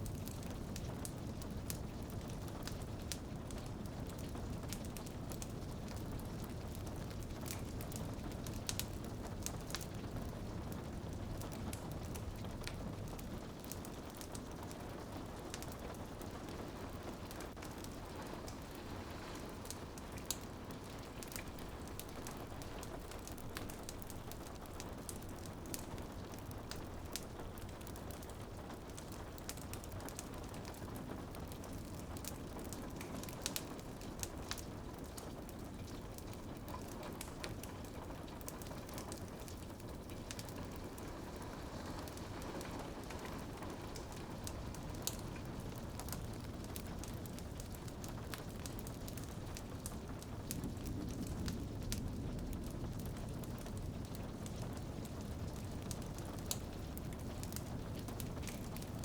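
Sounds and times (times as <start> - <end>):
rain pattering on window: 0.0 - 59.0
wood fire crackling: 0.0 - 59.0.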